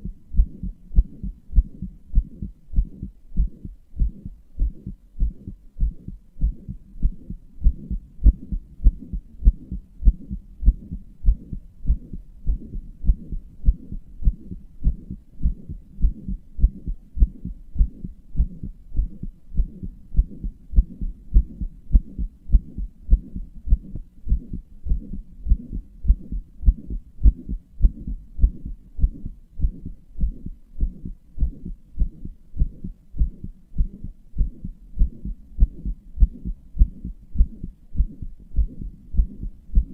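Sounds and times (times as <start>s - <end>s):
heartbeat with murmur: 0.0s - 39.9s.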